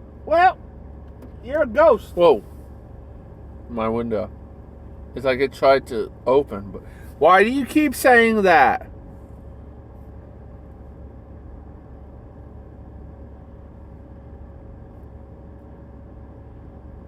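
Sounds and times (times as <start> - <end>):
car idling hum: 0.0 - 17.0.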